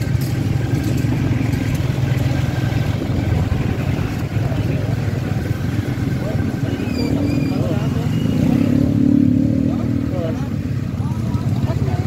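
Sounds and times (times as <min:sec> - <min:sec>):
car engines running: 0:00.0 - 0:12.0
motorcycle engines: 0:00.0 - 0:12.0.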